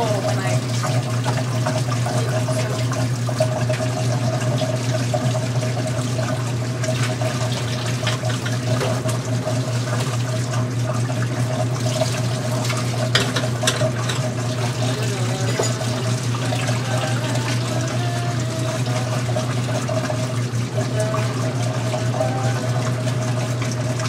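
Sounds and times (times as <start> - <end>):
hands washing with splashes: 0.0 - 24.0
tap water running into sink: 0.0 - 24.0.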